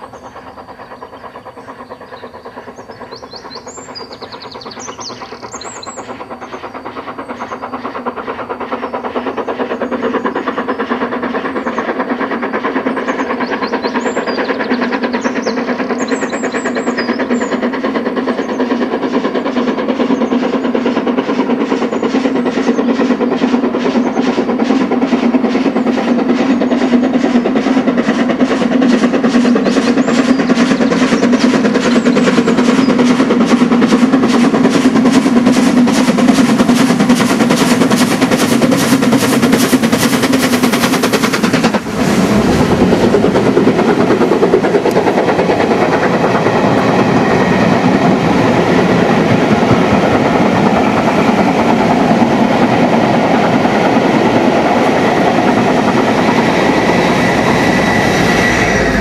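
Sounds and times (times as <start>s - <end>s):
steam locomotive exhaust beat: 0.0s - 59.0s.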